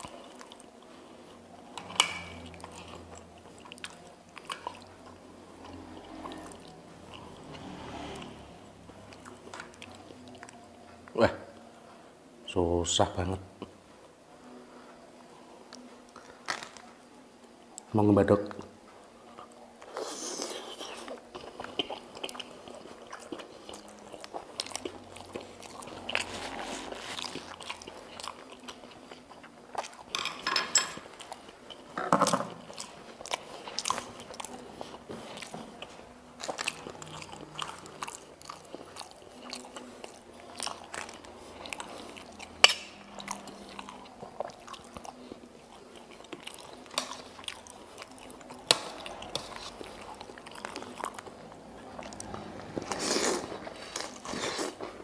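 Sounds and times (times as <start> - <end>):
man chewing food: 0.0 - 12.0, 13.6 - 17.9, 18.6 - 55.0.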